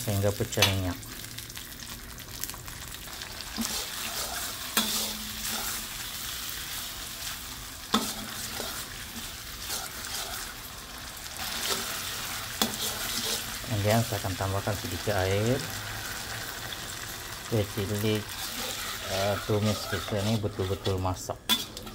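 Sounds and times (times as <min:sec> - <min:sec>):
paste sizzling in oil: 0:00.0 - 0:21.9
metal spatula scraping wok: 0:03.4 - 0:21.9.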